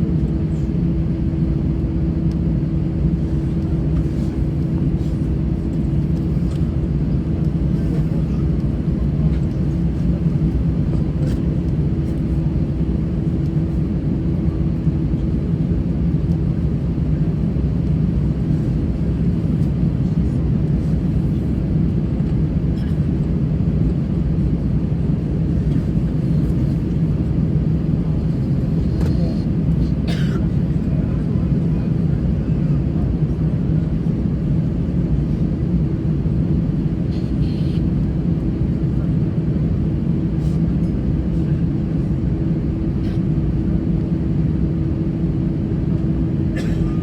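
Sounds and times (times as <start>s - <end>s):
aircraft cabin rumble: 0.0s - 47.0s.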